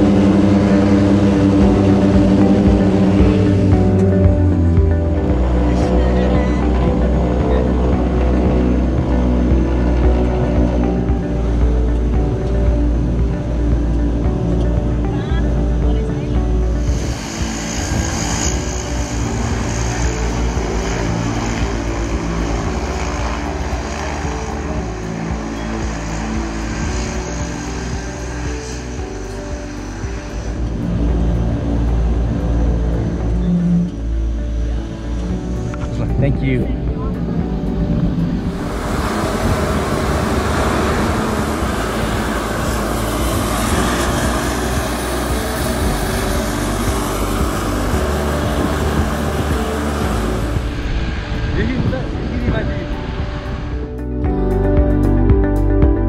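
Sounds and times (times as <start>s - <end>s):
low hum: 0.0s - 56.0s
turboprop engines running: 0.0s - 56.0s.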